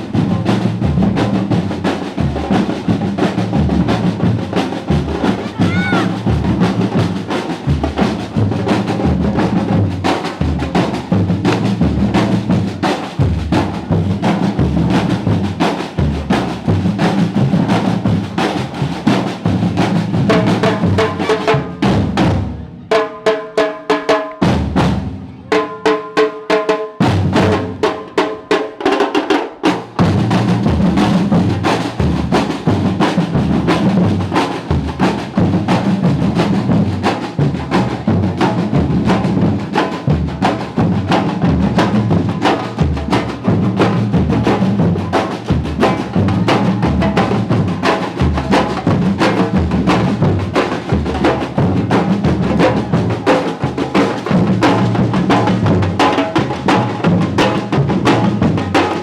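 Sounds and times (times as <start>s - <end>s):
fast drum kit beat: 0.0s - 59.0s.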